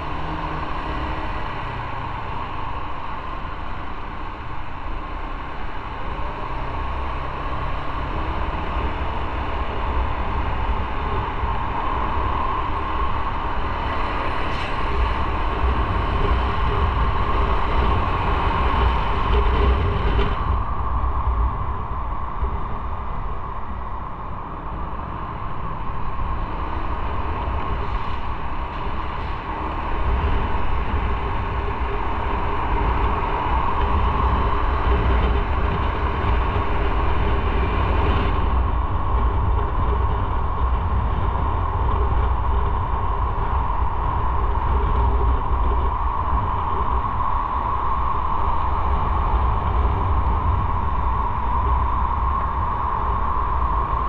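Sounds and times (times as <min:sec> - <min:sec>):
steady noise: 0:00.0 - 0:54.0.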